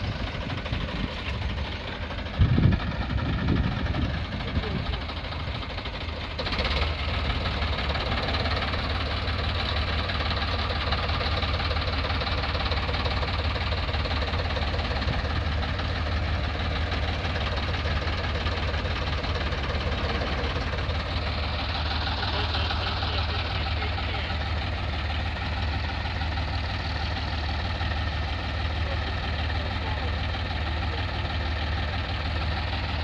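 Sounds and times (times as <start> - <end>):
diesel tractor engines running: 0.0 - 33.0.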